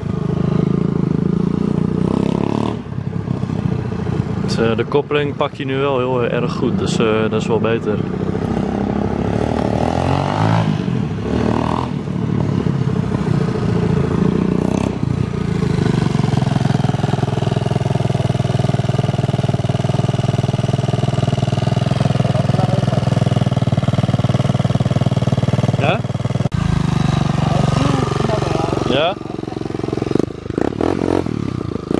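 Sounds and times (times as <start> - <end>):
motorbike engine revving and idling: 0.0 - 31.9.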